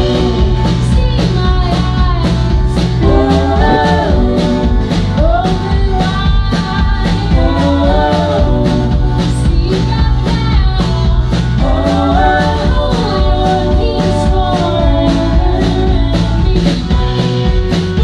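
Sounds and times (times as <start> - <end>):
women singing in harmony: 0.0 - 17.0
drum kit steady beat: 0.0 - 18.0
strummed guitars: 0.0 - 18.0.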